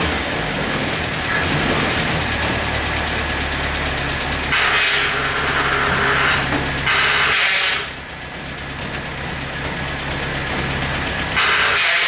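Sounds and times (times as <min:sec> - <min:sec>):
petrol engine idling: 0:00.0 - 0:12.0.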